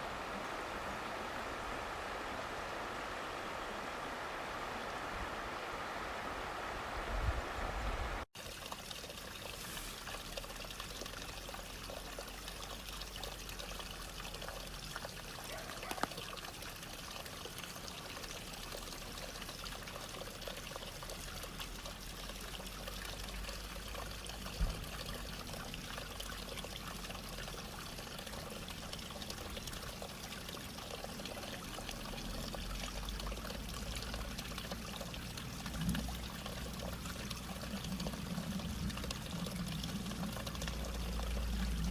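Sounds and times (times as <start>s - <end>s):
water trickling and splashing: 8.2s - 41.9s.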